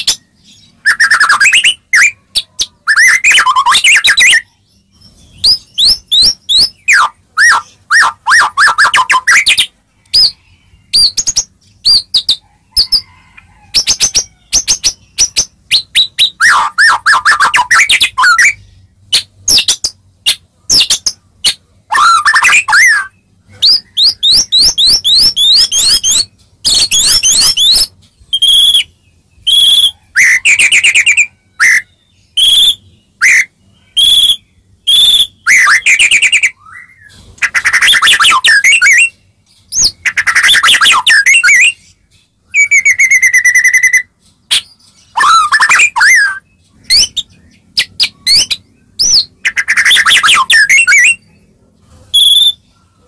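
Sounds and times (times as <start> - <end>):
bird singing whistles and trills: 0.0 - 41.9, 42.5 - 51.3, 52.2 - 52.7.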